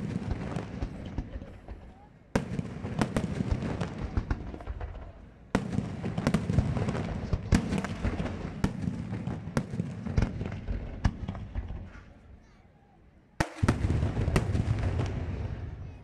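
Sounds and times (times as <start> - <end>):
fireworks crackle: 0.0 - 12.2, 13.4 - 16.0
fireworks bursting with bangs: 0.0 - 12.5, 13.4 - 16.0.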